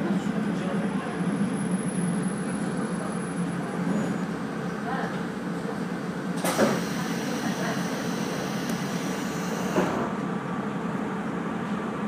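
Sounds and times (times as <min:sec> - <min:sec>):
train machinery and ventilation hum: 0:00.0 - 0:12.0.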